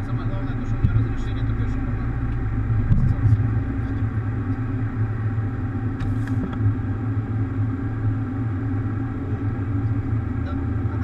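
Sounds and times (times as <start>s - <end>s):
aircraft engines rumbling: 0.0s - 11.0s.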